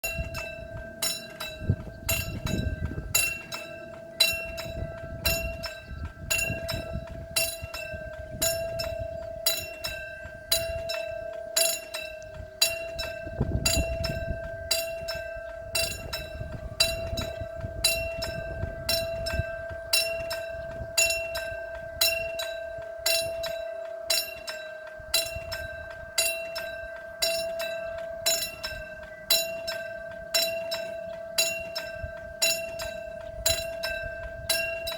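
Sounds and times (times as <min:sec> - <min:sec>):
level-crossing warning bell ringing: 0:00.0 - 0:34.9.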